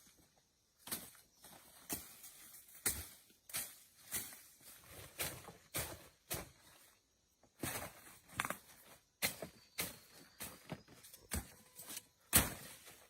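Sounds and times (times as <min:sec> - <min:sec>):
footsteps crunching: 0:00.8 - 0:13.0.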